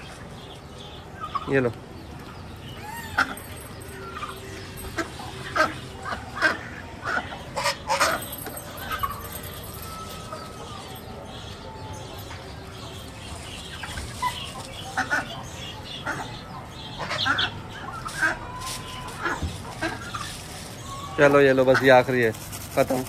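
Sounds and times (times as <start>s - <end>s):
fowl clucking and calling: 2.5s - 22.2s.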